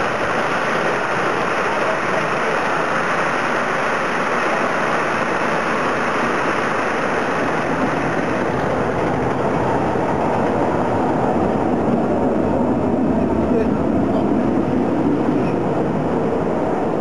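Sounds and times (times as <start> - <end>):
roller coaster rumbling on track: 0.0 - 17.0.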